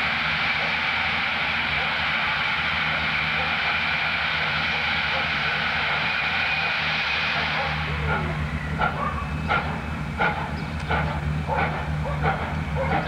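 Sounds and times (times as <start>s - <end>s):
steam hiss: 0.0s - 13.0s
steam locomotive exhaust chuffs: 0.0s - 13.0s.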